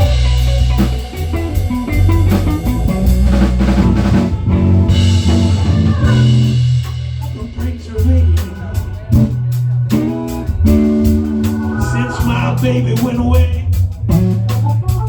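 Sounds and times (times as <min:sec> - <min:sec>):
bass: 0:00.0 - 0:15.0
guitar: 0:00.0 - 0:15.0.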